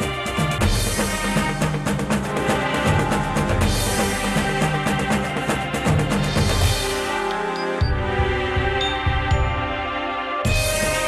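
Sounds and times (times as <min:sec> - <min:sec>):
theme music with fast beat: 0:00.0 - 0:11.0.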